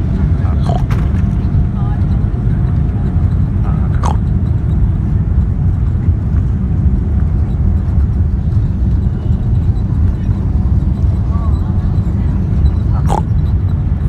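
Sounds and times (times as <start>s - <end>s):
airplane cabin takeoff rumble: 0.0s - 14.0s.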